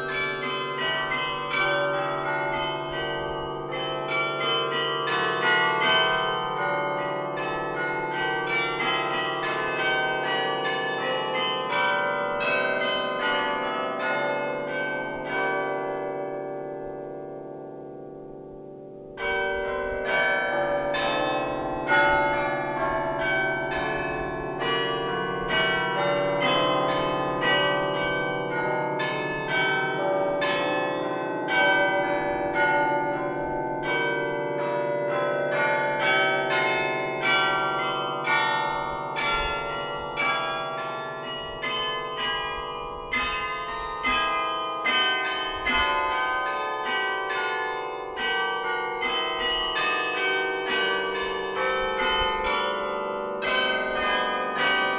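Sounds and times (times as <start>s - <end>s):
carillon bells playing a melody: 0.0s - 15.9s, 19.2s - 54.9s.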